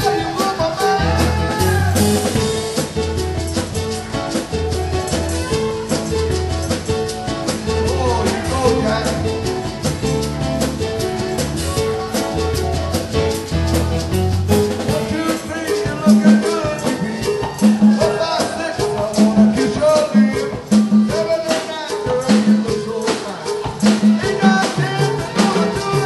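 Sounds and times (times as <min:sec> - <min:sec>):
bass line: 0:00.0 - 0:21.5, 0:23.6 - 0:26.0
drum kit: 0:00.0 - 0:26.0
hand percussion: 0:00.0 - 0:26.0
latin dance band playing: 0:00.0 - 0:26.0.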